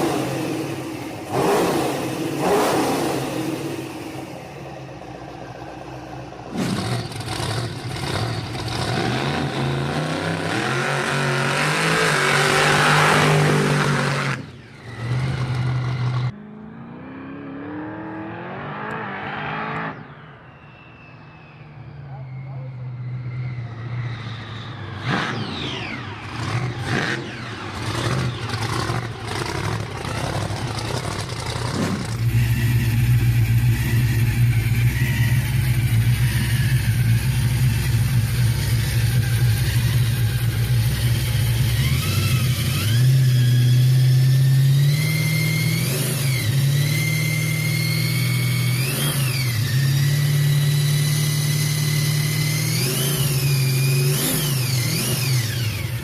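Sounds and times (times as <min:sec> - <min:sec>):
car engine revving: 0:00.0 - 0:20.6, 0:22.1 - 0:56.0.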